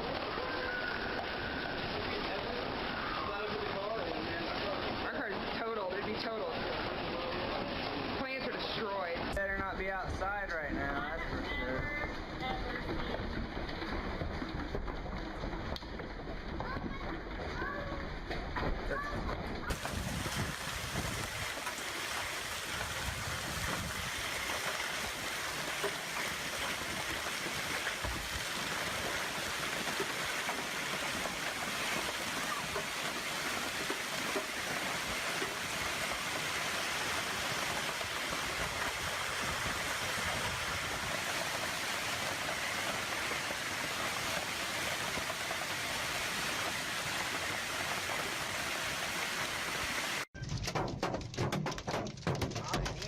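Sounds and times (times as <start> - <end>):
heavy rain downpour: 0.0 - 50.3.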